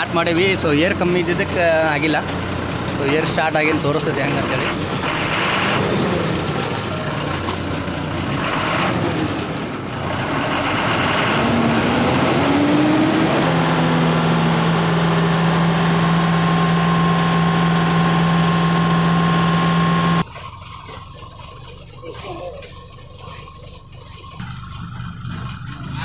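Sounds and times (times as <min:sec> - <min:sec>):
bus diesel engine running: 0:00.0 - 0:26.0.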